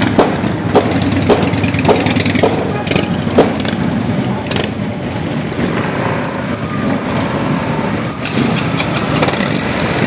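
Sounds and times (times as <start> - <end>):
motorcycle engines running: 0.0 - 10.0.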